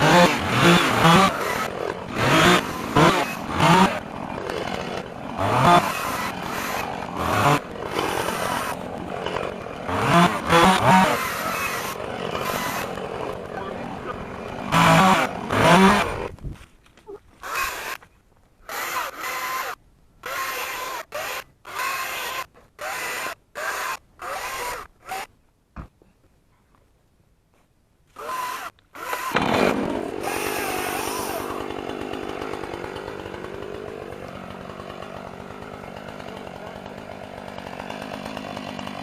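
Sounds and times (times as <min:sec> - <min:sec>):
chainsaw engine revving: 0:00.0 - 0:16.3, 0:17.4 - 0:18.0, 0:18.6 - 0:25.3, 0:28.2 - 0:39.0.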